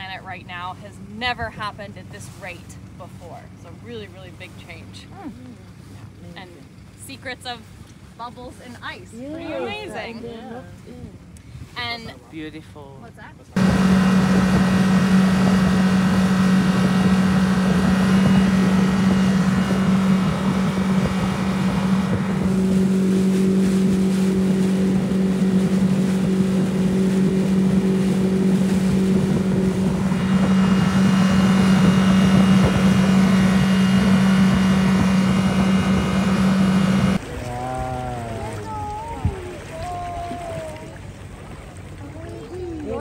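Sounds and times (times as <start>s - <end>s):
outboard motor running: 0.0s - 43.0s.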